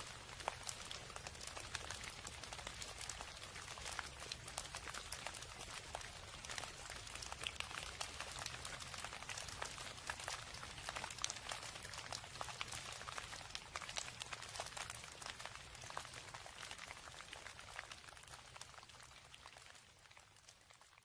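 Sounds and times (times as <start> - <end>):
rain patter: 0.0 - 21.0.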